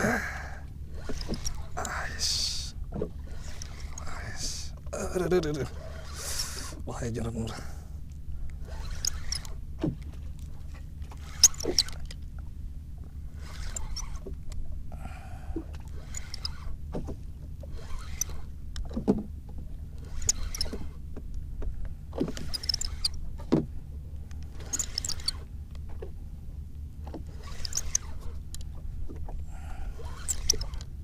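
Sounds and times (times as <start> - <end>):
steady low rumble: 0.0 - 11.3, 11.9 - 20.1, 20.8 - 22.2, 23.0 - 24.7, 25.4 - 27.4, 28.0 - 31.0
water lapping against boat hull: 0.0 - 31.0.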